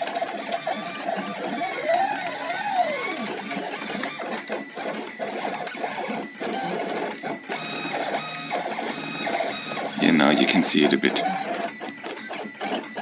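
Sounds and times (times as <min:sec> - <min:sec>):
printer axes buzzing and whirring: 0:00.0 - 0:13.0.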